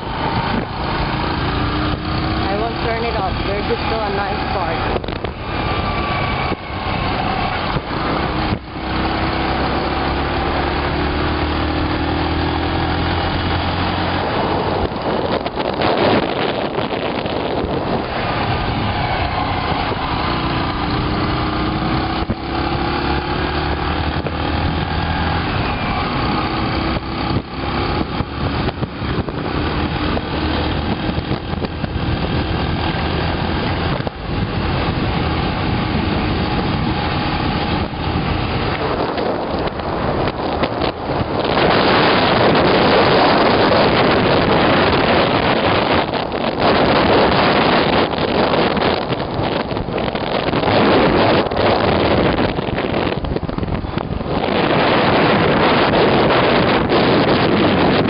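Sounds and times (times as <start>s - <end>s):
motorbike engine running: 0.0s - 58.0s
wind and road noise: 0.0s - 58.0s.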